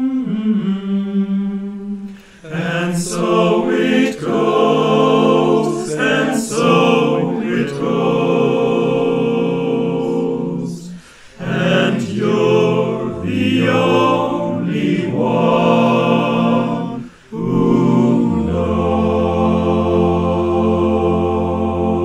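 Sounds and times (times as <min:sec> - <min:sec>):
male choir singing: 0:00.0 - 0:22.0.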